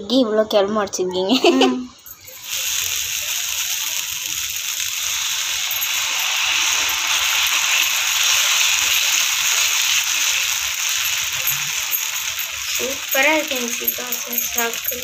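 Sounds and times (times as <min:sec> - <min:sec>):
batter sizzling on hot griddle: 0:02.1 - 0:15.0.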